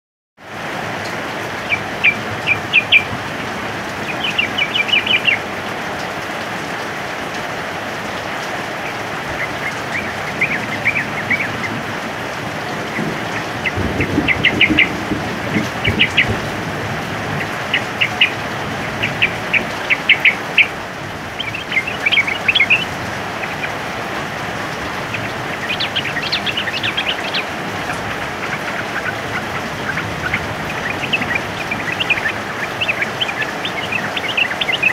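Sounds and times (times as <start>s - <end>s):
heavy rain: 0.4s - 34.9s
birds chattering song: 1.5s - 5.6s, 8.7s - 34.9s.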